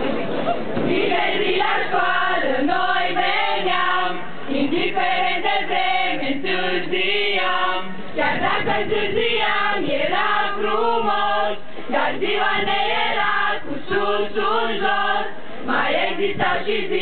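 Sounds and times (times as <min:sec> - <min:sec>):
students singing in unison: 0:00.8 - 0:17.0.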